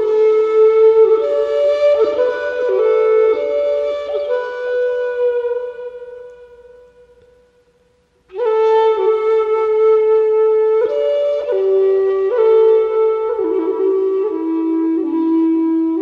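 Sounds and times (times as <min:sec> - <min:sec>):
flute-like wind instrument: 0:00.0 - 0:16.0.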